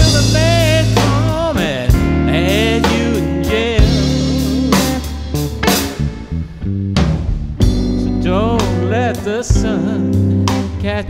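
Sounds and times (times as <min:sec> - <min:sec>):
bass guitar: 0:00.0 - 0:11.0
drums: 0:00.0 - 0:11.0
electric guitar lead with bent notes: 0:00.0 - 0:11.0.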